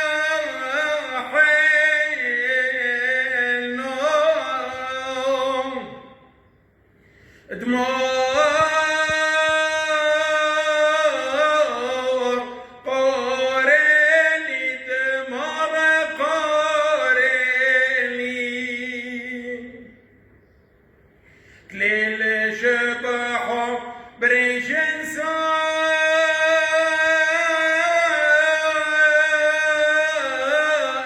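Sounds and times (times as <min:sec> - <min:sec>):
man chanting a hymn: 0:00.0 - 0:06.3, 0:07.4 - 0:20.0, 0:21.6 - 0:31.0.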